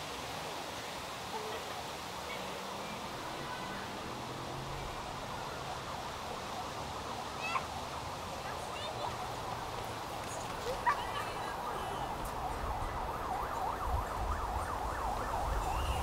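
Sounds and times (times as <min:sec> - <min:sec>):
steady outdoor hiss: 0:00.0 - 0:16.0
distant voices: 0:01.5 - 0:16.0.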